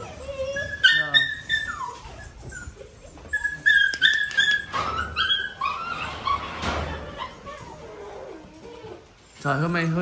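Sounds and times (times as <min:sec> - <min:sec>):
dogs whining and yipping: 0:00.0 - 0:10.0.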